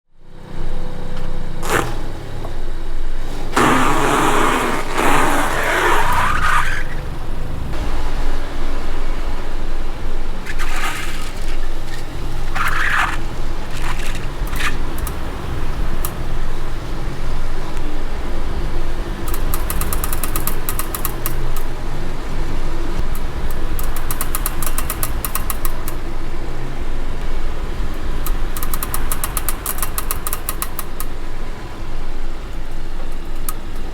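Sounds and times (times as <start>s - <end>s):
car driving with low rumble: 0.1s - 33.9s
rapid clicking from wheel: 0.5s - 33.9s.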